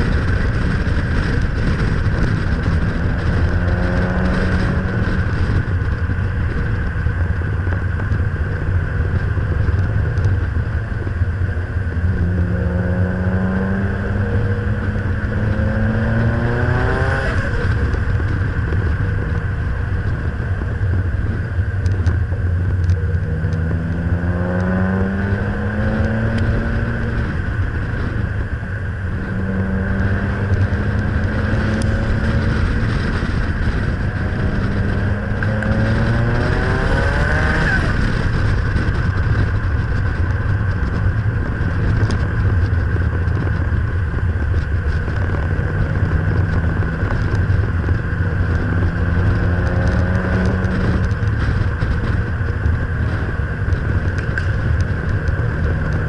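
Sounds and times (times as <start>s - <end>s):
car engine accelerating: 0.0s - 56.0s
wind and road noise: 0.0s - 56.0s.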